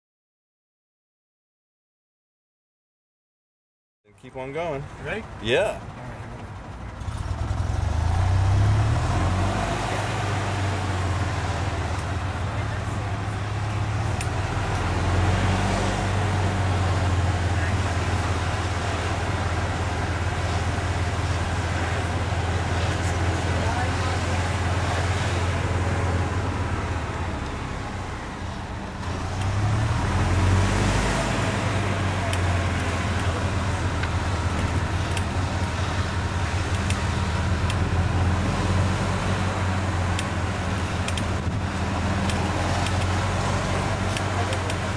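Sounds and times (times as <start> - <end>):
road and wind noise: 4.2 - 44.9
golf cart driving: 4.3 - 44.9.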